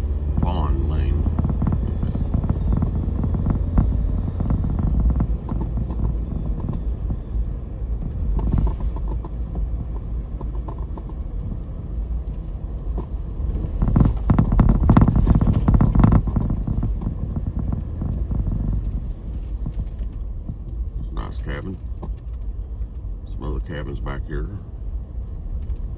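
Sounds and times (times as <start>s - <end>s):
car creaks and rattles: 0.0s - 25.9s
tyres rumbling on rough road: 0.0s - 25.9s.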